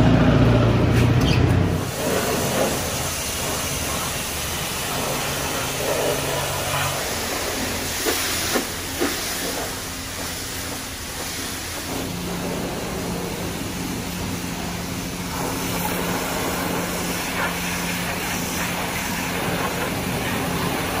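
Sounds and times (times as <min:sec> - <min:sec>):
pressure washer spraying water: 0:01.0 - 0:21.0.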